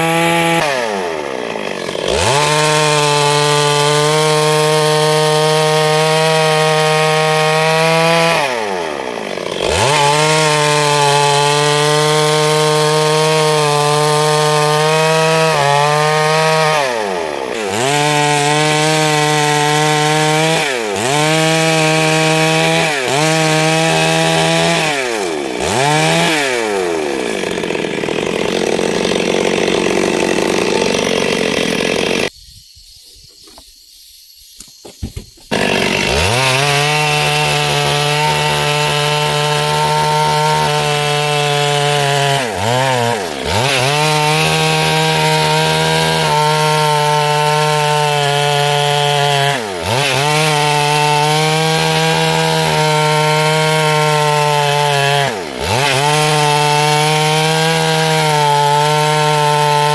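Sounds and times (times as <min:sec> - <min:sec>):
chainsaw cutting wood: 0:00.0 - 0:32.4, 0:34.6 - 0:59.9.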